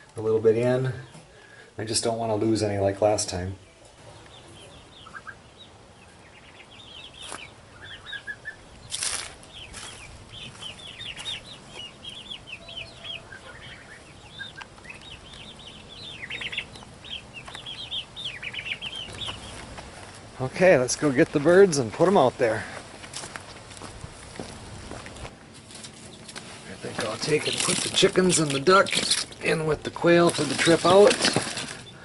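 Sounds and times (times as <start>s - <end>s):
chicks chirping: 2.0s - 22.8s, 23.4s - 32.0s.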